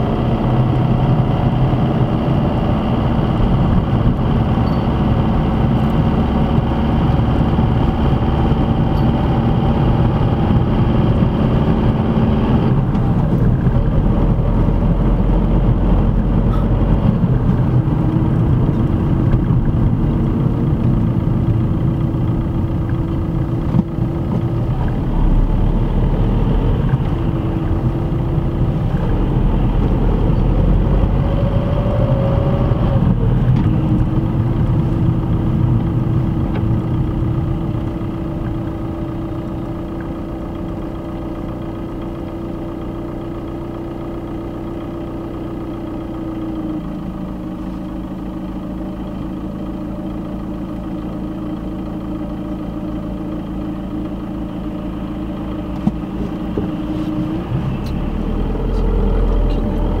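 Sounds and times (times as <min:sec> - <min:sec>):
car engine from inside cabin: 0:00.0 - 1:00.0
road noise: 0:00.0 - 1:00.0.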